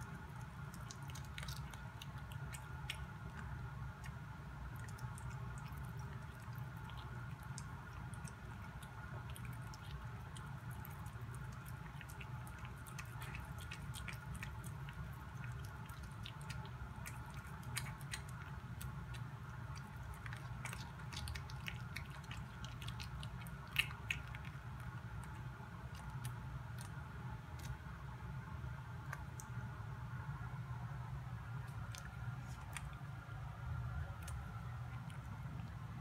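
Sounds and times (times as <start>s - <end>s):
cat chewing: 0.0s - 36.0s
steady low hum: 0.0s - 36.0s.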